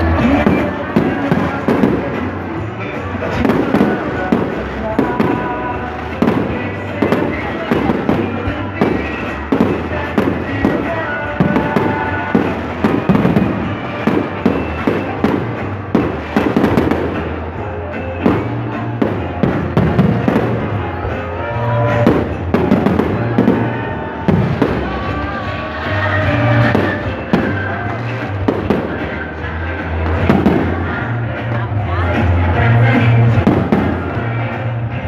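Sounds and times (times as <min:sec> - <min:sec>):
fireworks bangs and crackles: 0:00.0 - 0:35.0
music playing: 0:00.0 - 0:35.0.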